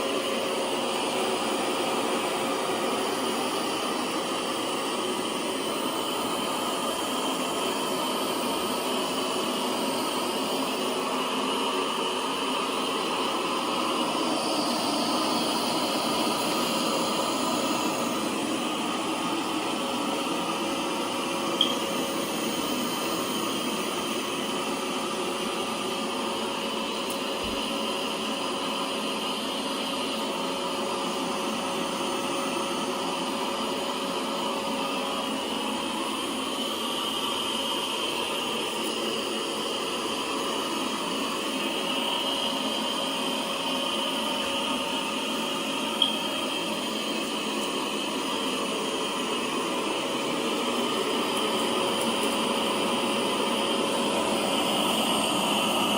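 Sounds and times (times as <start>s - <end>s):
robot vacuum running: 0.0s - 55.9s.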